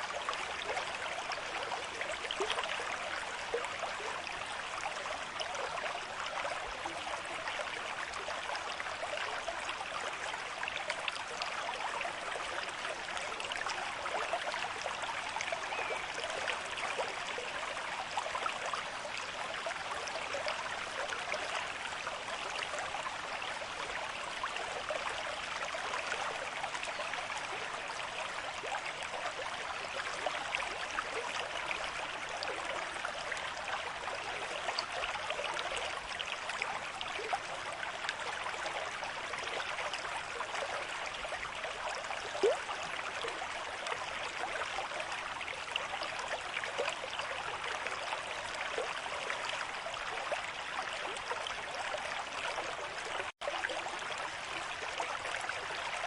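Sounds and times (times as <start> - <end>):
river water running: 0.0 - 56.0.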